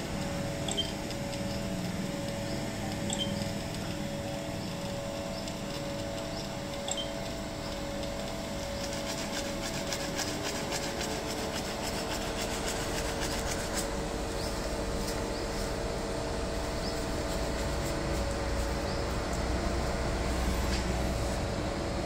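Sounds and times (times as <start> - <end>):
oven fan hum: 0.0 - 22.0.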